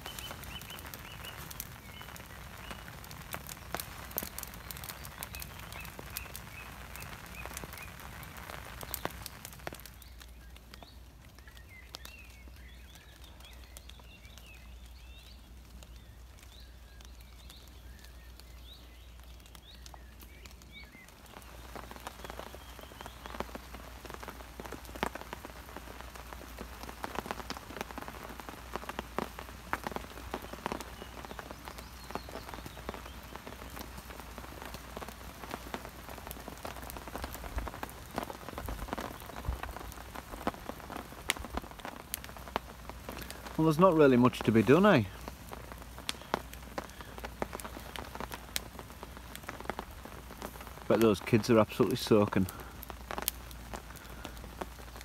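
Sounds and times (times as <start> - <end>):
rain falling on leaves: 0.0 - 55.0
single raindrops pattering: 0.0 - 55.0.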